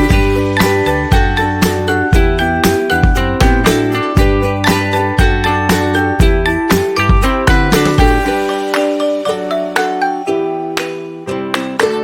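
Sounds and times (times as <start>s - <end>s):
plucked guitar-like notes: 0.0s - 12.0s.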